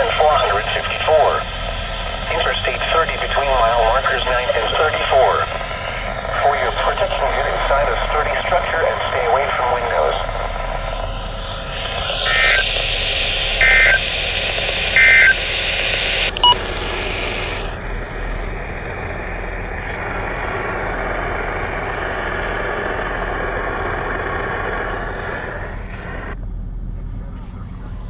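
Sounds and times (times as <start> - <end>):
radio static hiss: 0.0 - 26.4, 27.0 - 28.0
warbling data bursts: 0.0 - 26.4.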